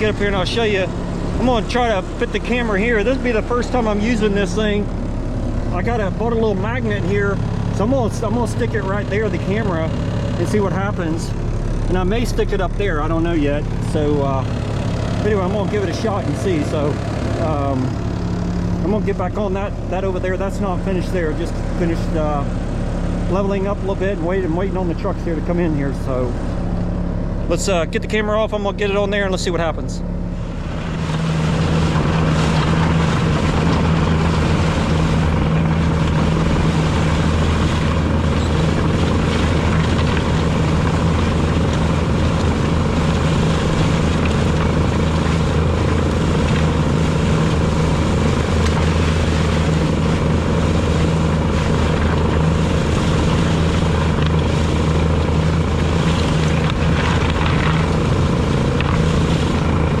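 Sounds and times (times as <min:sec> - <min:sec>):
loud diesel engine running: 0:00.0 - 1:00.0.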